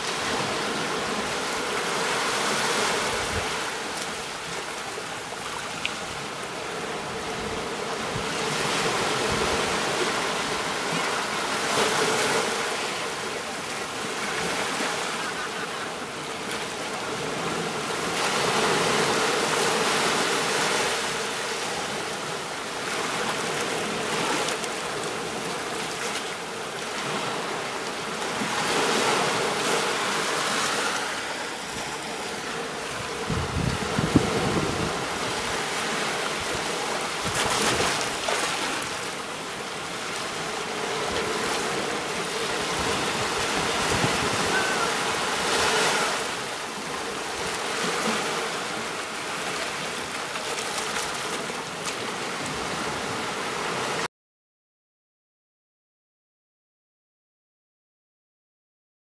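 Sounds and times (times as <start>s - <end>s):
small waves breaking on sandy shore: 0.0s - 54.1s.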